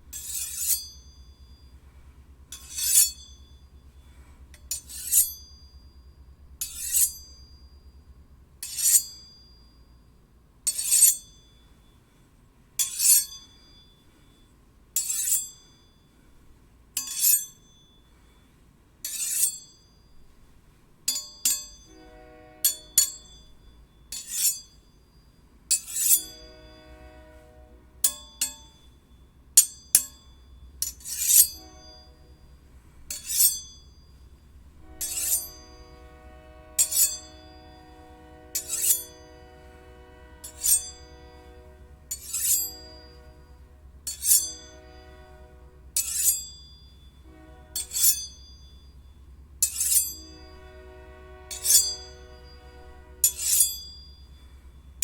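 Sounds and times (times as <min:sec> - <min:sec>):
steel blades clinking: 0:00.1 - 0:01.8, 0:02.5 - 0:08.0, 0:08.6 - 0:09.9, 0:10.6 - 0:12.0, 0:12.8 - 0:16.2, 0:17.0 - 0:18.4, 0:19.0 - 0:20.4, 0:21.1 - 0:21.9, 0:22.6 - 0:26.8, 0:28.0 - 0:36.2, 0:36.8 - 0:39.6, 0:40.4 - 0:45.2, 0:46.0 - 0:50.6, 0:51.5 - 0:55.0.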